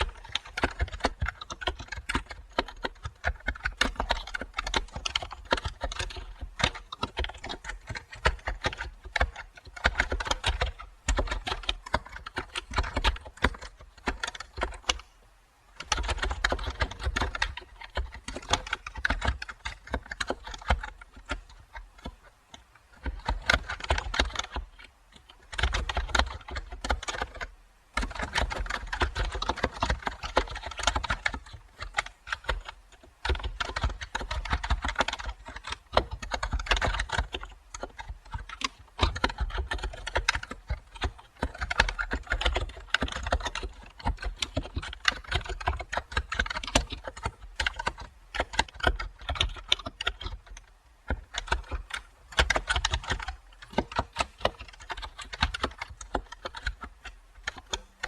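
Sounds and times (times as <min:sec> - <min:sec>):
keyboard typing clicks: 0:00.0 - 0:15.1, 0:15.8 - 0:58.0.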